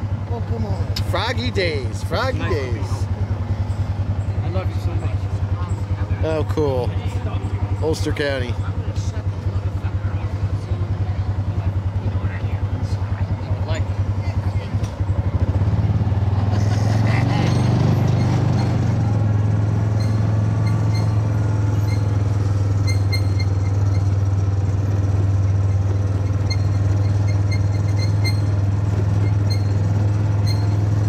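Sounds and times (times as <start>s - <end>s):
vehicle engine droning: 0.0s - 31.0s.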